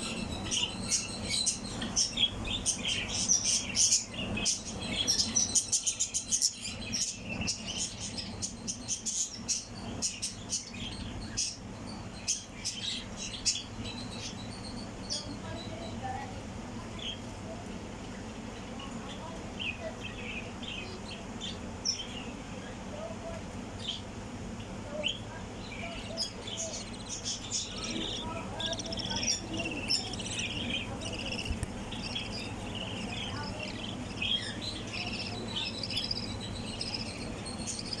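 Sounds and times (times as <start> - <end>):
low steady hum: 0.0 - 38.0
small birds chirping: 0.0 - 38.0.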